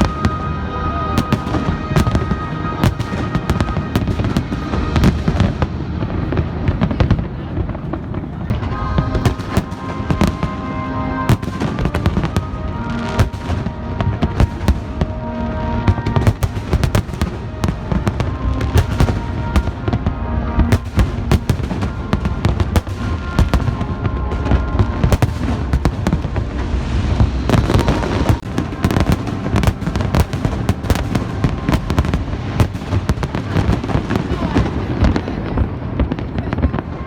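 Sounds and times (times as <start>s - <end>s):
music with held notes: 0.0s - 6.3s, 8.4s - 37.0s
fireworks bangs and crackles: 0.0s - 37.0s.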